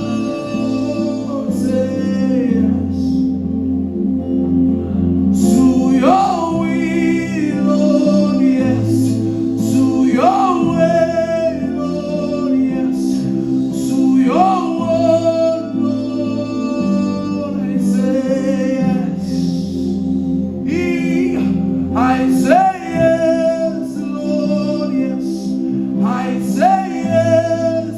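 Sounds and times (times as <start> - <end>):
person singing: 0.0 - 27.9.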